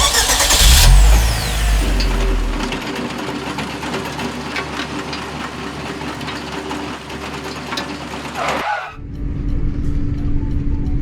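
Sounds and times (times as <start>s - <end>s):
truck engine running with rattle: 0.0s - 9.0s.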